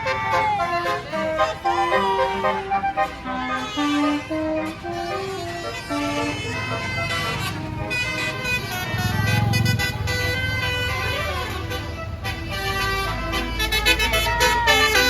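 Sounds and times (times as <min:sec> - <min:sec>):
bus air horn playing a tune: 0:00.0 - 0:15.0
low engine rumble: 0:00.0 - 0:15.0.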